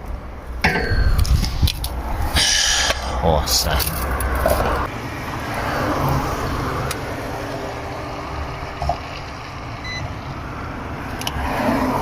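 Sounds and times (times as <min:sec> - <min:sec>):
passing vehicles rumbling: 0:00.0 - 0:12.0.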